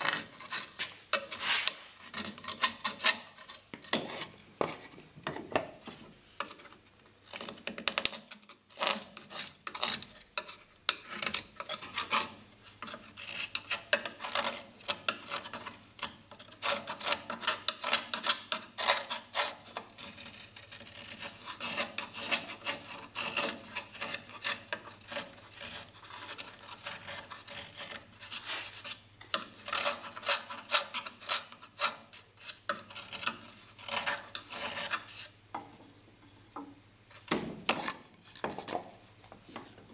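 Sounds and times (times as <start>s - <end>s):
knife scraping wood: 0.0s - 35.6s, 37.1s - 39.9s.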